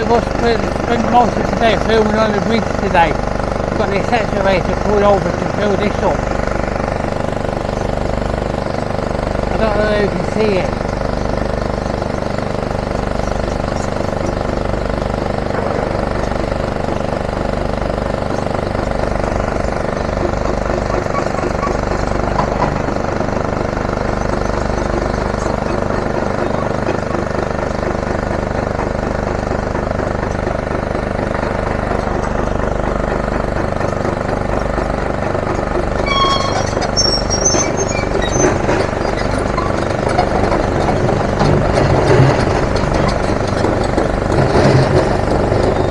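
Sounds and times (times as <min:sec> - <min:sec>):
diesel machinery engines running: 0:00.0 - 0:45.9.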